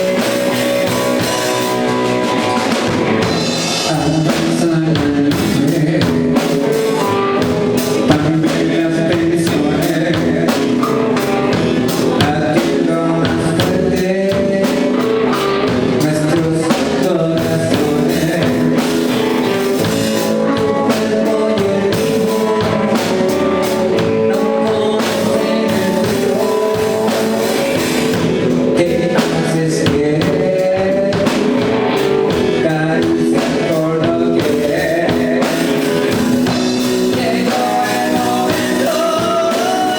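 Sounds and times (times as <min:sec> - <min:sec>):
blues band playing: 0:00.0 - 0:39.9
drum kit beat: 0:00.0 - 0:39.9
guitar: 0:00.0 - 0:39.9.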